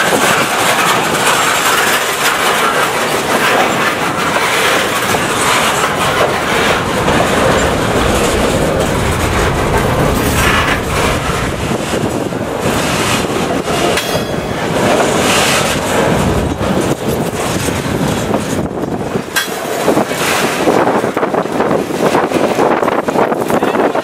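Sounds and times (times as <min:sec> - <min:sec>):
diesel locomotive rolling past: 0:00.0 - 0:24.0
wheels clacking over rail joints: 0:00.0 - 0:24.0.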